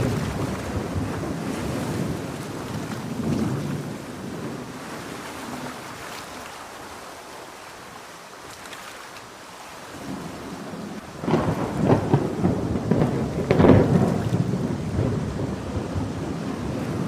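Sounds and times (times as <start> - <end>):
ocean surf: 0.0 - 17.0
rain: 0.0 - 17.0.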